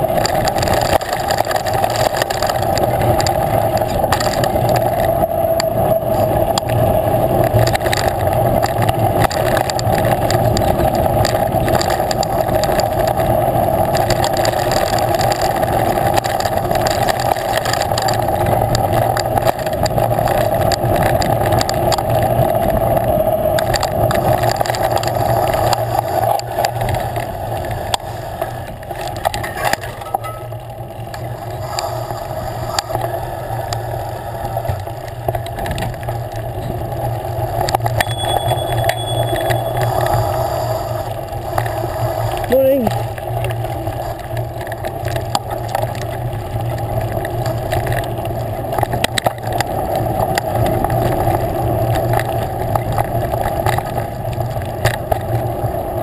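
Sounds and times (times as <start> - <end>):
bike tyre rumble: 0.0 - 56.0.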